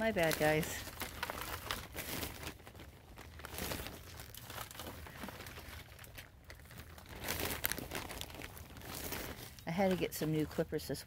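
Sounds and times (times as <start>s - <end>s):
soil rustling against plastic tray: 0.0s - 10.9s.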